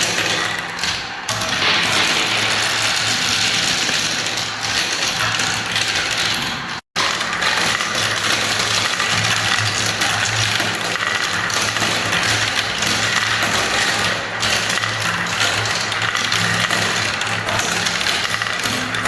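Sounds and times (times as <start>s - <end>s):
marbles rolling down track: 0.0s - 19.0s.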